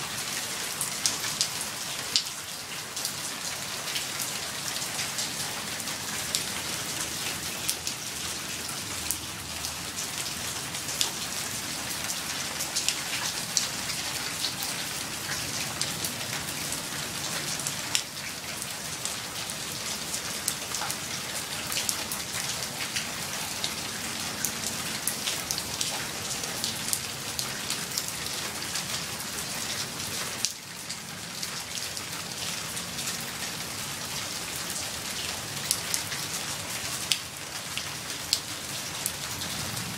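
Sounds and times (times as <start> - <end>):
rain falling: 0.0 - 39.9
raindrops pattering on surfaces: 0.1 - 39.9.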